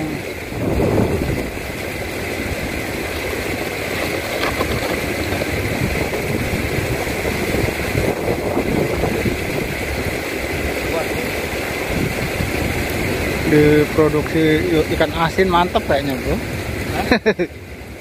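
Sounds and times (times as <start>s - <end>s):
water rushing from spout: 0.0s - 18.0s.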